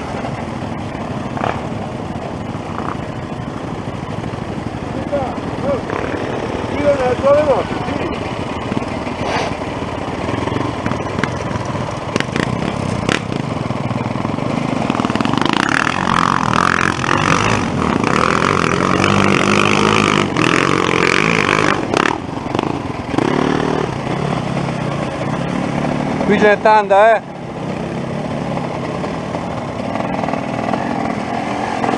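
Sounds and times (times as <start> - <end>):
dirt bike engines revving: 0.0 - 31.9.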